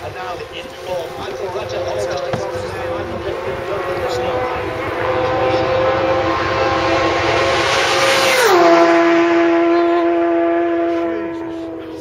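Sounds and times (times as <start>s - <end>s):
motorcycle passing at speed: 0.4s - 12.0s.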